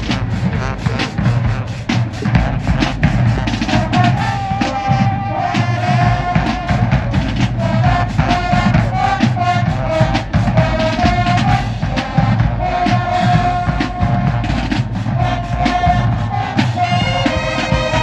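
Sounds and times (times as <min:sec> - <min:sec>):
bass and snare drums beat: 0:00.0 - 0:18.0
marching band melody: 0:00.0 - 0:18.0.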